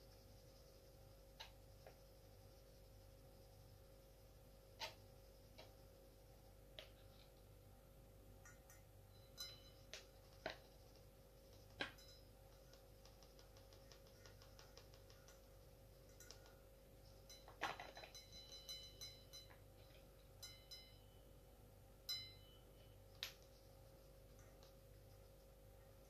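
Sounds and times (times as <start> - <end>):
faint rhythmic ticking: 0.0 - 26.0
faint steady hum: 0.0 - 26.0.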